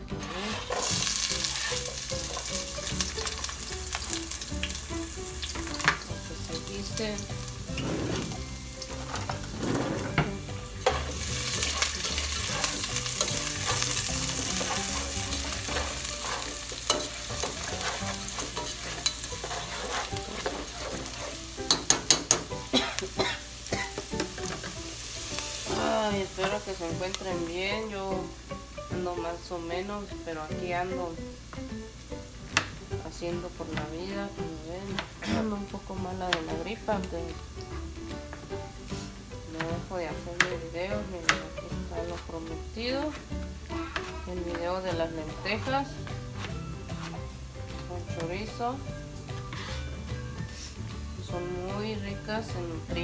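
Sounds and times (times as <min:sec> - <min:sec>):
onion and garlic sizzling in oil: 0:00.0 - 0:53.0.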